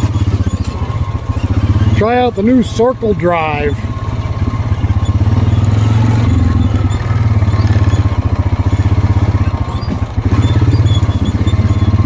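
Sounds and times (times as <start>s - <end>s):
atv engine pulsing: 0.0s - 12.0s.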